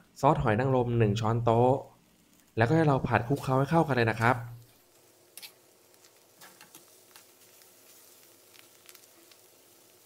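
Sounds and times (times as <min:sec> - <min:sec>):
faint sizzle: 0:00.0 - 0:10.0.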